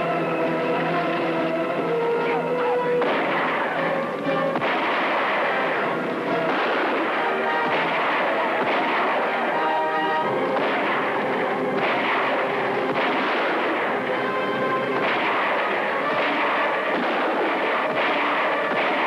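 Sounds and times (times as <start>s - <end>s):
dramatic background music: 0.0s - 19.0s
gunshots: 2.0s - 19.0s.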